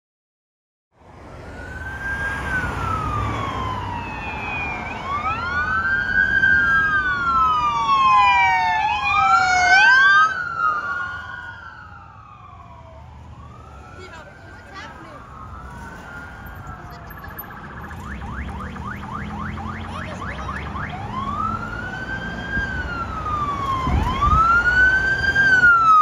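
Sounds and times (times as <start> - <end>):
emergency sirens wailing: 1.0 - 26.0.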